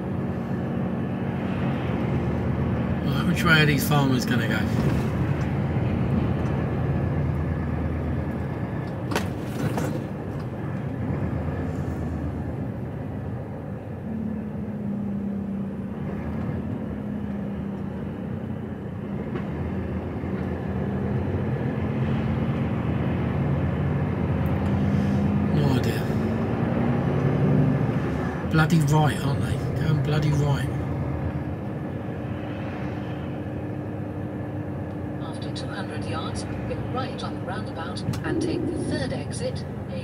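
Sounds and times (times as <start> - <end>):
lorry diesel engine: 0.0 - 40.0
road noise: 0.0 - 40.0
steady engine hum: 0.0 - 40.0.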